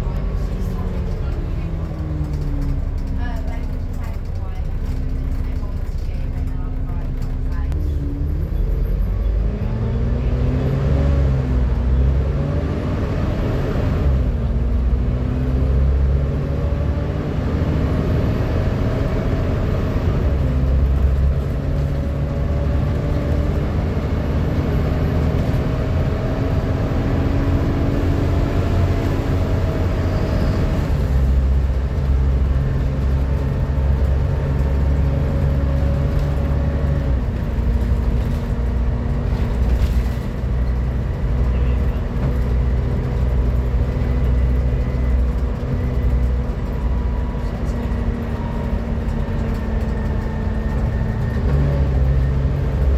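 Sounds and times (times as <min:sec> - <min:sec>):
bus engine whining and rumbling: 0:00.0 - 0:52.9.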